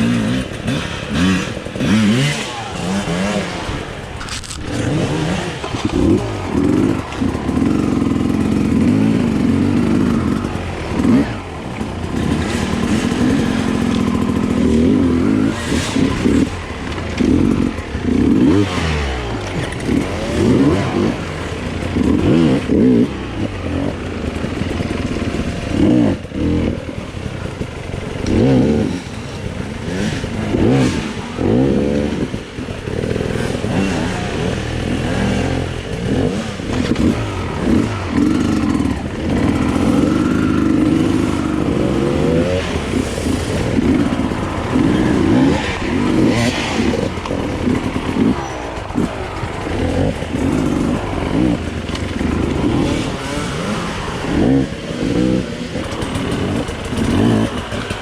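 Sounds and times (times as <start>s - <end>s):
bike clattering over rough ground: 0.0s - 58.0s
dirt bike engine revving: 0.0s - 58.0s.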